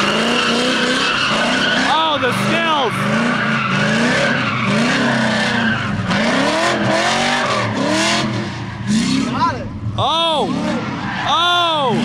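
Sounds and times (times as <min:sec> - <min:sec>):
car engine revving: 0:00.0 - 0:12.0
tires skidding: 0:00.0 - 0:12.0.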